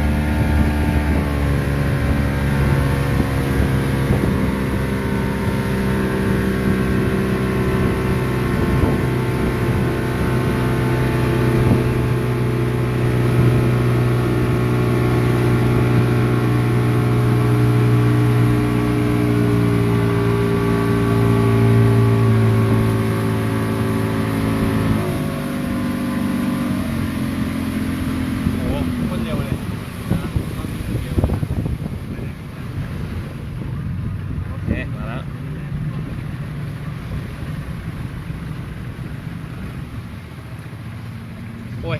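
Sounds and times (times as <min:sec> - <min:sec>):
motorboat engine running: 0:00.0 - 0:41.9.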